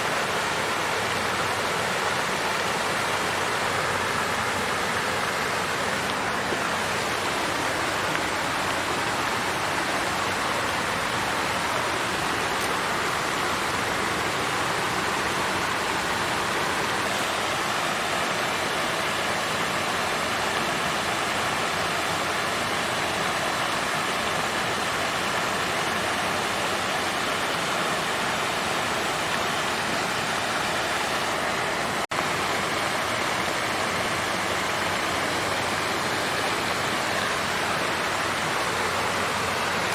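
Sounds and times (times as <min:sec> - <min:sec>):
water fountain flowing: 0:00.0 - 0:39.9.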